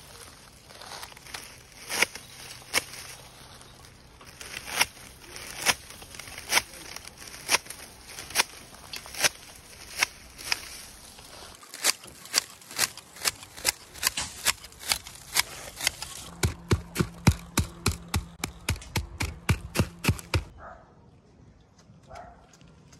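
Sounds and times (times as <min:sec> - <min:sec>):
shears snipping straw: 0:00.0 - 0:20.5.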